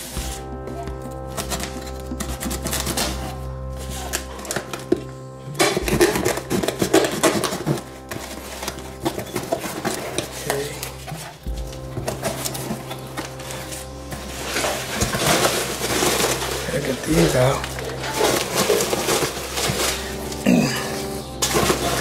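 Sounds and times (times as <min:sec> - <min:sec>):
packing peanuts rustling: 0:00.0 - 0:22.0
steady low hum: 0:00.1 - 0:22.0.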